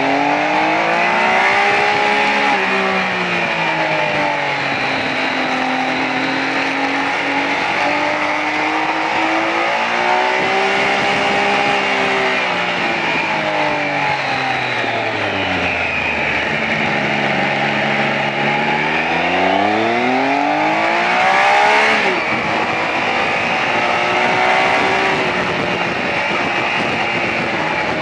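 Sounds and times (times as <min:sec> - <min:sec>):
motorcycle engine revving: 0:00.0 - 0:28.0
wind noise: 0:00.0 - 0:28.0.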